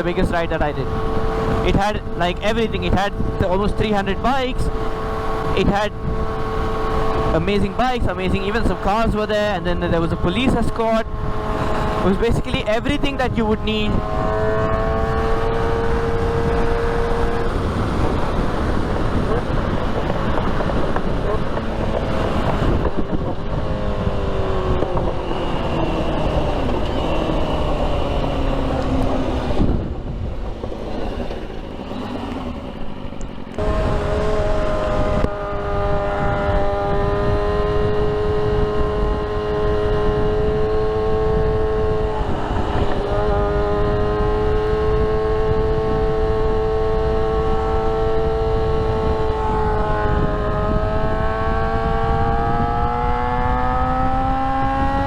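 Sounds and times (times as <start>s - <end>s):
constant rushing noise: 0.0s - 55.0s
motorcycle engine revving: 0.0s - 55.0s.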